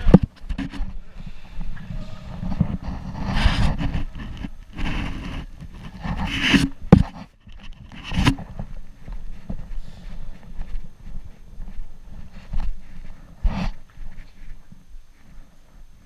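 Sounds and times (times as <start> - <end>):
footsteps: 0.0 - 16.0
clothing and gear rustling: 0.4 - 16.0.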